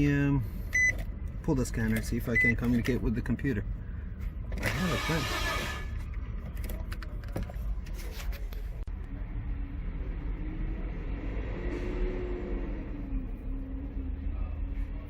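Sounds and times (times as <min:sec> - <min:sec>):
steady low rumble: 0:00.0 - 0:04.7, 0:05.6 - 0:15.0.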